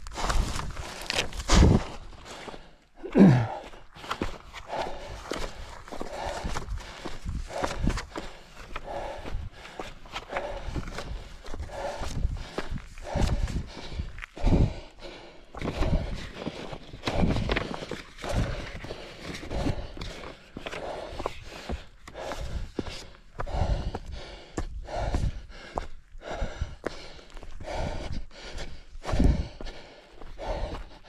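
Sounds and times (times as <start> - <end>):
footfalls on rough ground: 0.0 - 14.8, 15.5 - 25.9
heavy breathing: 0.0 - 31.0.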